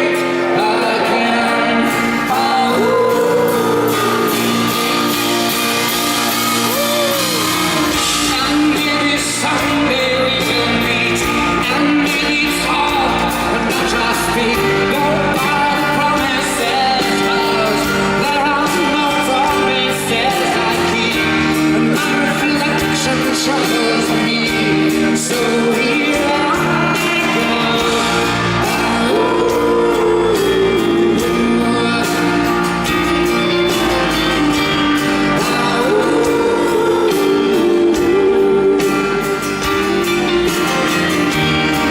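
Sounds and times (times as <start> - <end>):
live pop-rock band: 0.0 - 41.9
person singing: 0.0 - 41.9.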